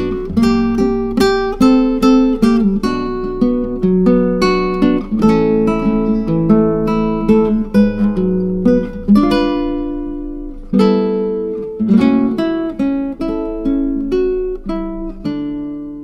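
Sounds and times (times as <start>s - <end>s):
guitar plucking slow melody: 0.0s - 16.0s.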